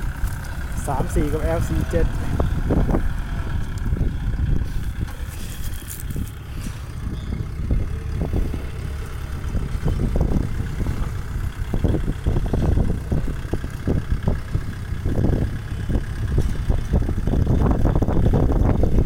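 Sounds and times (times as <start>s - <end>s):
tractor diesel engine rumbling: 0.0s - 19.0s.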